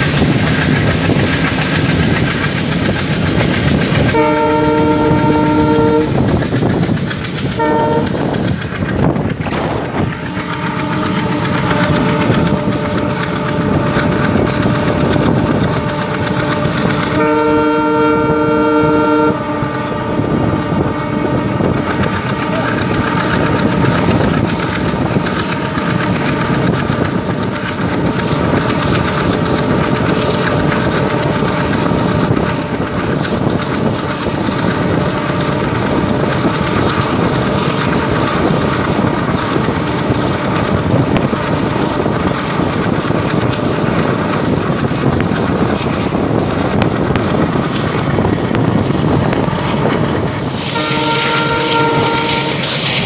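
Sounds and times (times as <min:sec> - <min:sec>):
rushing wind: 0:00.0 - 0:53.0
train wheels rumbling on rail: 0:00.0 - 0:53.0.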